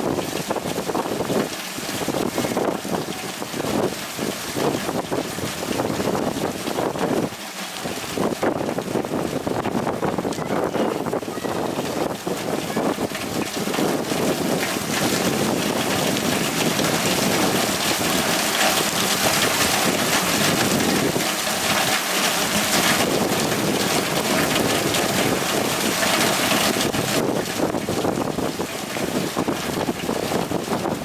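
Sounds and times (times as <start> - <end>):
gusting wind on microphone: 0.0 - 31.0
heavy rain pouring: 0.0 - 31.0.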